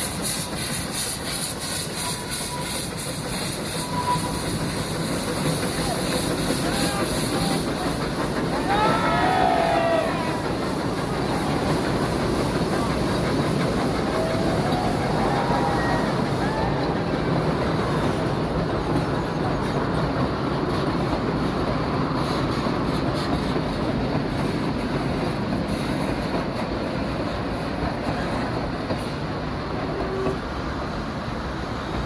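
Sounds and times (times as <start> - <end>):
steam train rolling by: 0.0 - 32.0.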